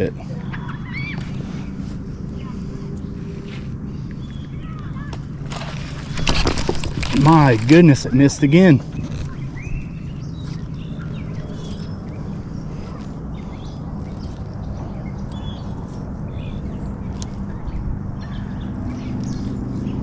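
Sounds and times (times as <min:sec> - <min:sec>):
birds chirping and calling: 0:00.0 - 0:03.2, 0:03.9 - 0:20.0
steady low hum: 0:00.0 - 0:20.0.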